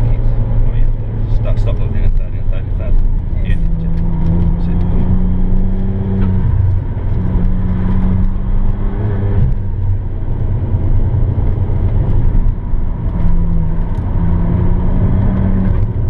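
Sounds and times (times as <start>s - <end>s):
car engine: 0.0s - 16.0s
road rumble: 0.0s - 16.0s.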